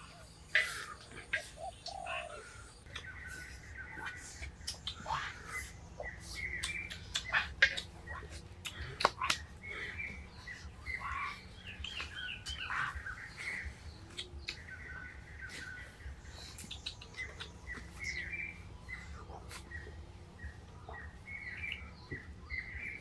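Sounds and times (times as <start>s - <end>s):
birds chirping and warbling: 0.0s - 23.0s.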